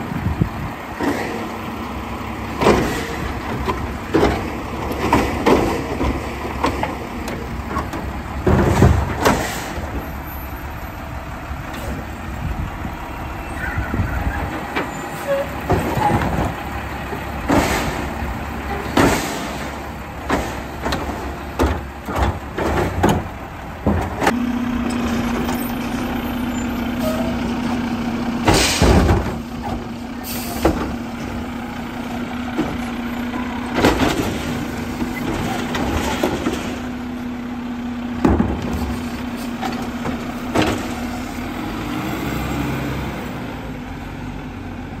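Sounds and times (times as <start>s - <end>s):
trash carts banging on hopper: 0.0s - 10.9s, 11.6s - 37.4s, 38.0s - 43.5s
diesel truck running: 0.0s - 45.0s.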